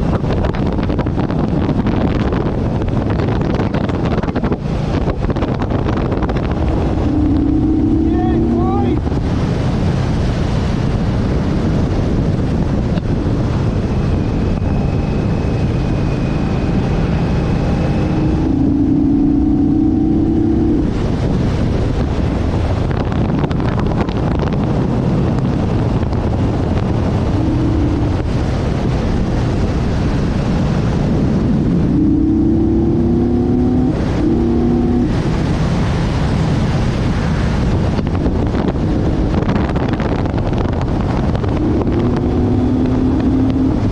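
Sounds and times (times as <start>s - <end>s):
motorcycle engine: 0.0s - 43.9s
wind rush on microphone: 0.0s - 43.9s.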